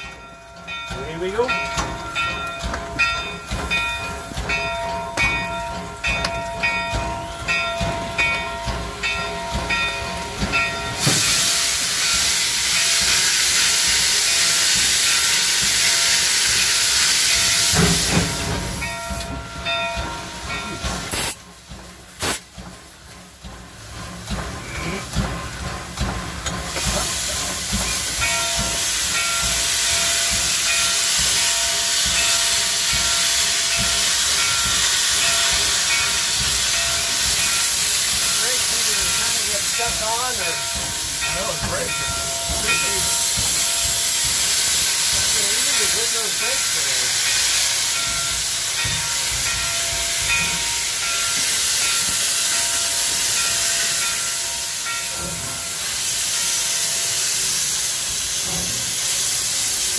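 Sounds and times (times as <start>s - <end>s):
loud steam hissing: 0.0s - 59.9s
steam locomotive rhythmic beat: 0.0s - 59.9s.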